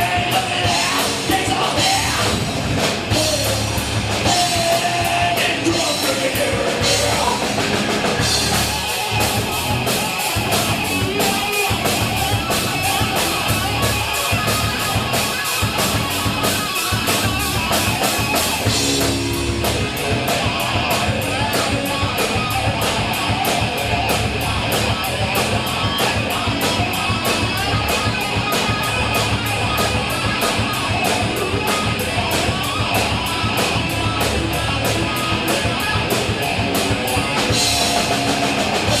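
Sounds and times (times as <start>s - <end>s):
rock music with drums and guitar: 0.0s - 39.0s.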